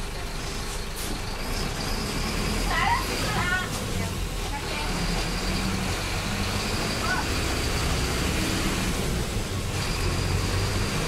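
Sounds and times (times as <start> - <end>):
bus engine running: 0.0 - 11.0
road noise: 0.0 - 11.0.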